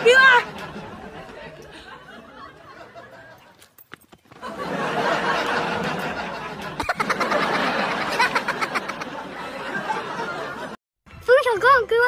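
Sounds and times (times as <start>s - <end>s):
group of people laughing: 0.0s - 3.6s, 4.4s - 10.8s.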